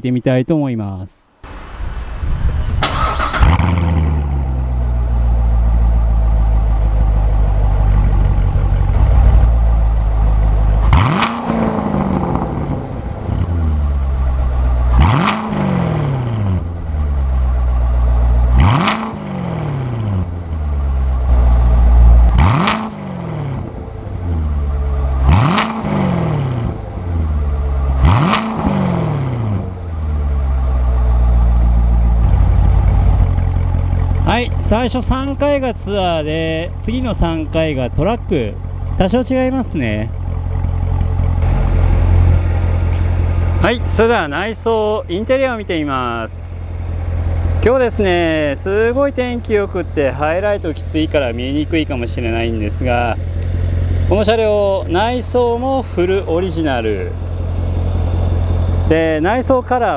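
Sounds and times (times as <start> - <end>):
car engine idling and revving: 1.4 - 59.9.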